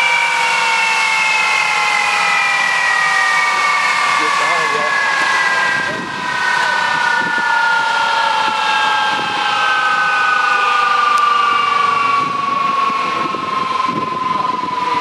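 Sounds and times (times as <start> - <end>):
jet engines whining down: 0.0 - 15.0.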